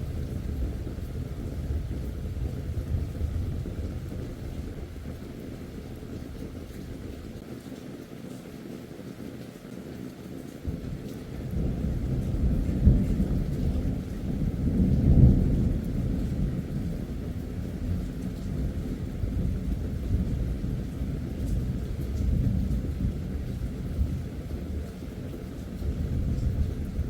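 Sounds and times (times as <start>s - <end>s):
thunder rumbling: 0.0s - 7.4s, 10.7s - 27.0s.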